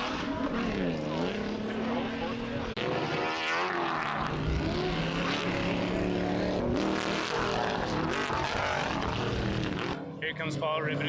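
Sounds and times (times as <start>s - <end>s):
race engines revving: 0.0s - 11.0s.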